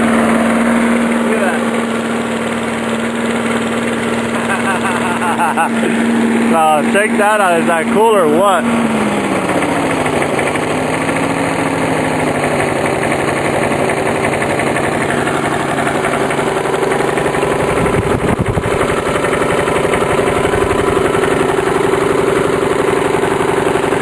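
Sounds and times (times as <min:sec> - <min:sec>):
lawn mower engine idling: 0:00.0 - 0:24.0.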